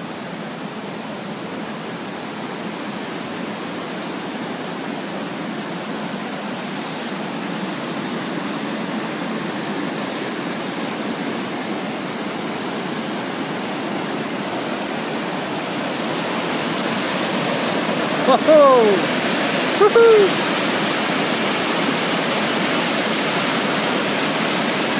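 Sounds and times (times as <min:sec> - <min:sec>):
large waterfall rushing: 0:00.0 - 0:24.9.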